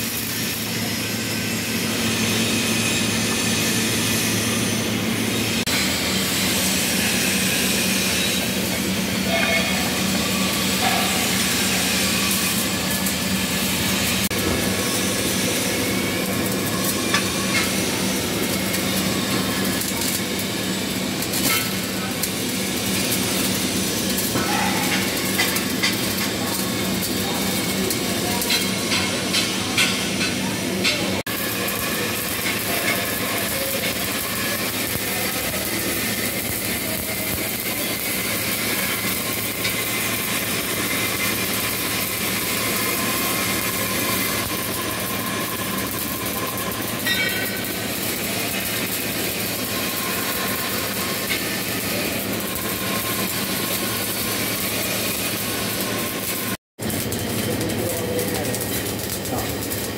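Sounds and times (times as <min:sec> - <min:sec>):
welding arc crackling hiss: 0:00.0 - 0:59.9.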